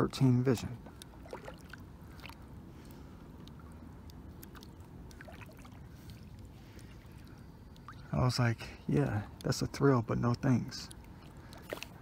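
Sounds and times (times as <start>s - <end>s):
low steady rumble: 0.0s - 12.0s
water dripping and trickling: 0.0s - 12.0s.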